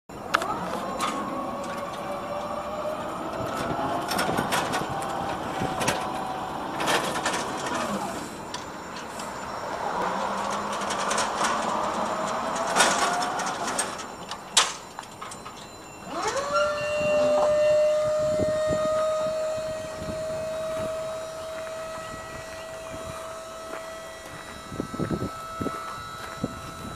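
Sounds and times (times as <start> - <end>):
scissor lift motor whine: 0.1 - 26.9.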